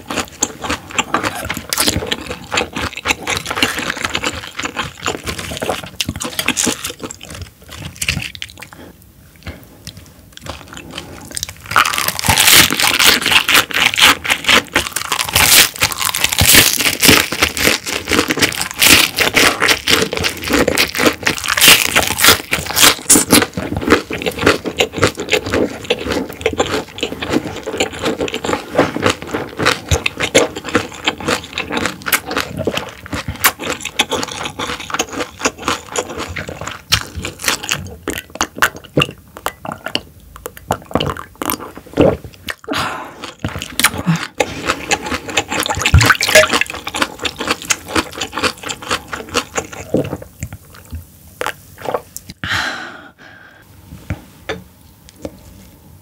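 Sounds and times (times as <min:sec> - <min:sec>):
chewing and crunching food: 0:00.0 - 0:52.4.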